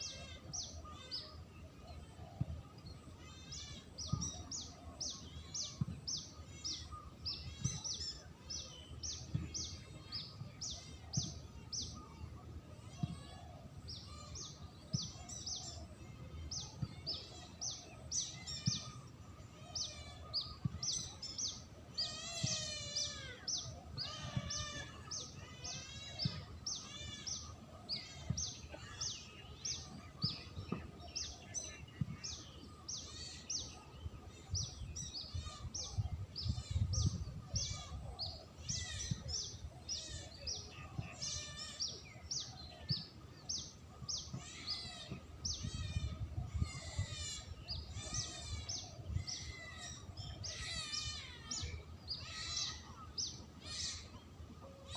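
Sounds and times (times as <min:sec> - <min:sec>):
small birds chirping: 0:00.0 - 0:54.9
wavering bird trills: 0:00.0 - 0:54.9.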